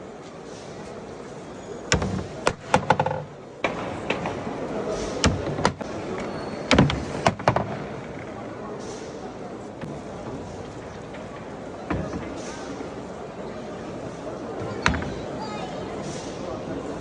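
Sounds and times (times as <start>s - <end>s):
background hubbub: 0.0s - 17.0s.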